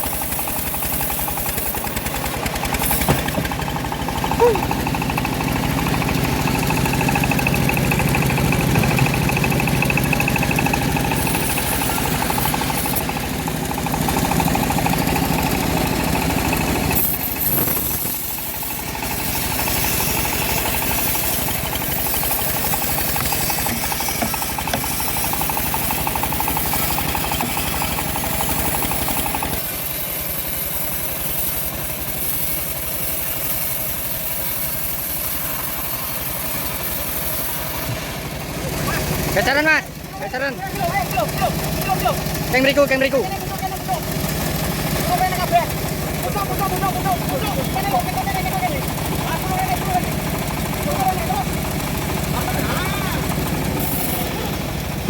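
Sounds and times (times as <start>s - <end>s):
bandsaw mill engine throbbing: 0.0s - 55.0s.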